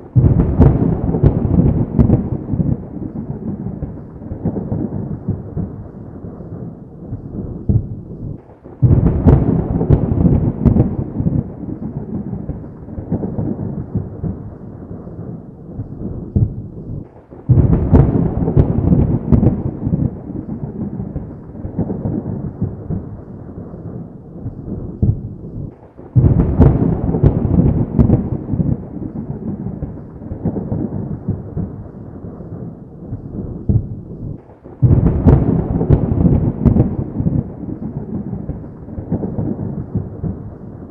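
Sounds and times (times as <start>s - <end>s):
low thunder rumble: 0.0s - 40.9s
thunder claps: 0.0s - 40.9s.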